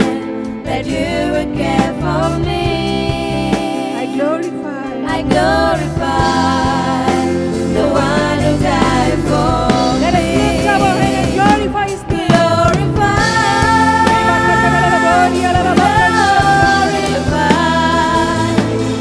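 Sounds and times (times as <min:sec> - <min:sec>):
person singing: 0:00.0 - 0:19.0
sustained instrumental backing: 0:00.0 - 0:19.0.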